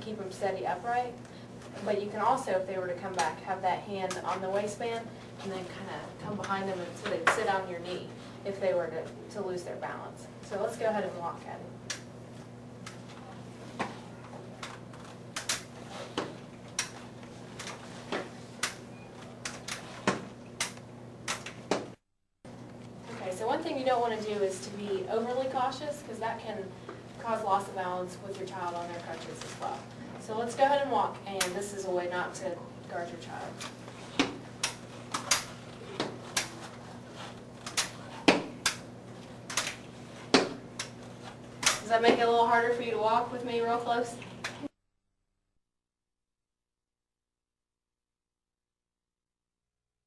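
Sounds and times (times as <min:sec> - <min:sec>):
steady low hum: 0:00.0 - 0:44.7.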